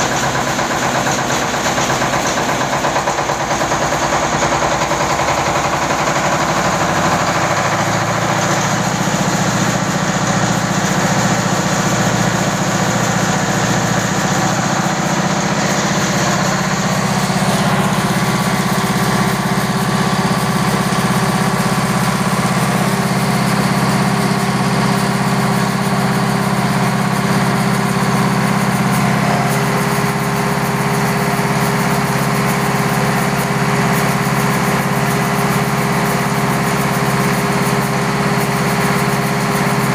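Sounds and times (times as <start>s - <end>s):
diesel engine driving rice mill: 0.0s - 39.9s.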